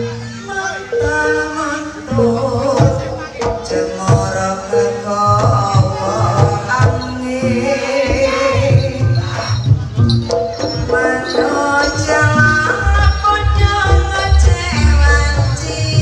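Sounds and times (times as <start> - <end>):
drum strokes: 0.0 - 16.0
gamelan ensemble music: 0.0 - 16.0.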